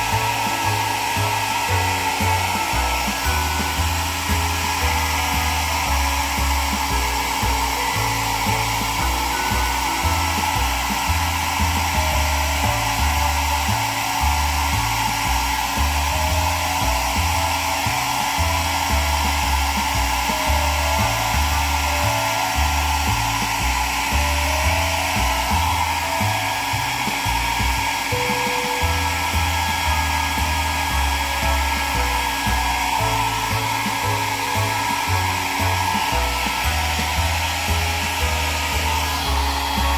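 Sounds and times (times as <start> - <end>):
background music: 0.0 - 39.9
hair dryer blowing: 0.0 - 39.9.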